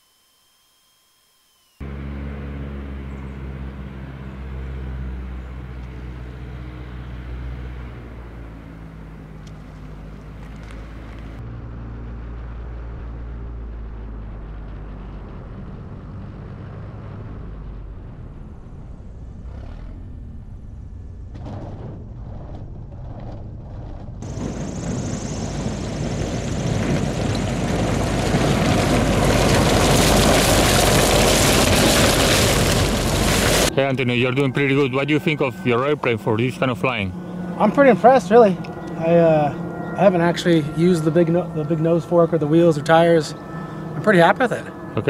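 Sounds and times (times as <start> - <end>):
light aircraft engine and propeller: 1.4 - 21.4, 22.4 - 45.0.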